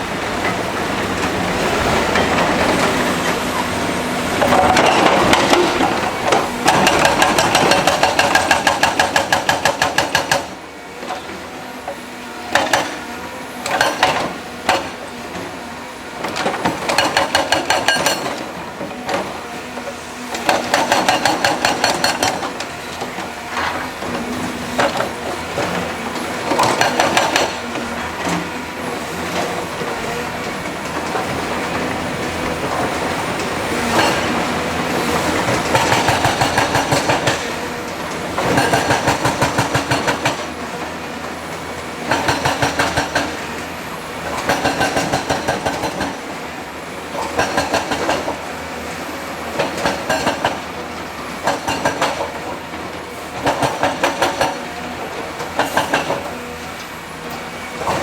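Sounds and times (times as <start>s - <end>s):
construction machinery engine: 0.0s - 58.0s.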